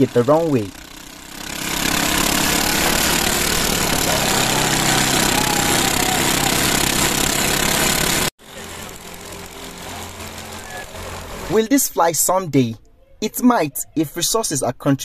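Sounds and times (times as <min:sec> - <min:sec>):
aircraft petrol engines running: 0:00.0 - 0:12.3.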